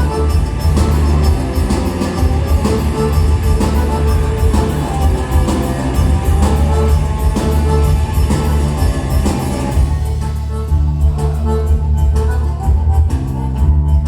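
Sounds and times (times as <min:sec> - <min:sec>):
heavy bass line: 0:00.0 - 0:14.0
live rock band playing: 0:00.0 - 0:14.0
steady drum beat: 0:00.0 - 0:14.0.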